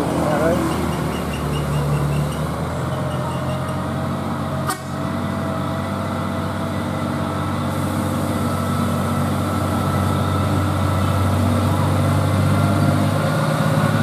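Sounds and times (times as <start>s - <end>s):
diesel truck engine climbing: 0.0s - 14.0s.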